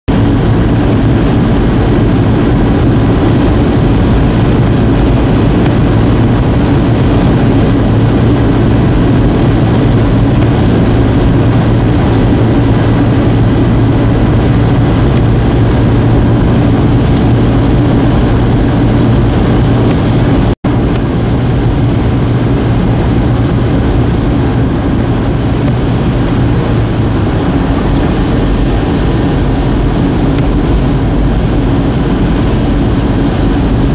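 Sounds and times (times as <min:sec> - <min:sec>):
car driving road noise: 0:00.1 - 0:33.9
low drone: 0:00.1 - 0:33.9.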